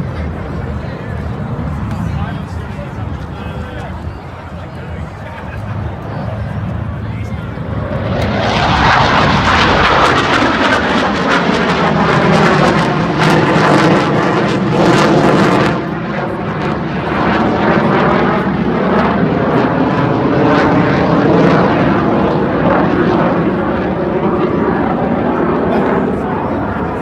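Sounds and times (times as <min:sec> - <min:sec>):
jet aircraft flying over: 0:00.0 - 0:27.0.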